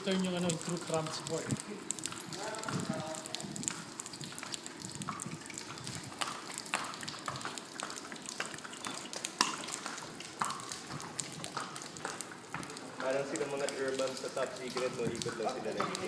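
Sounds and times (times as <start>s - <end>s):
horse hooves clopping on stone: 0.0s - 16.0s.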